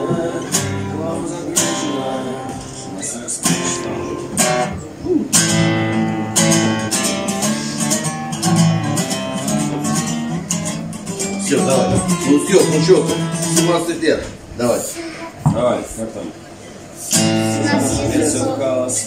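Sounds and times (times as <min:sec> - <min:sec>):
acoustic guitar strumming chords: 0:00.0 - 0:14.4, 0:17.1 - 0:19.0.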